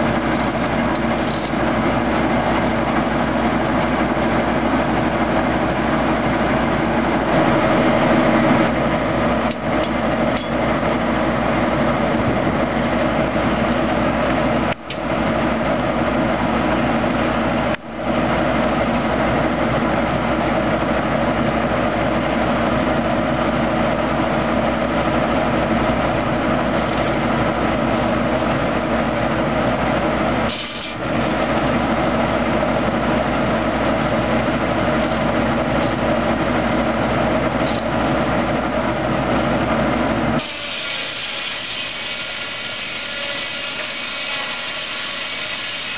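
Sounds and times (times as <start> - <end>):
tractor engine drone: 0.0 - 45.9.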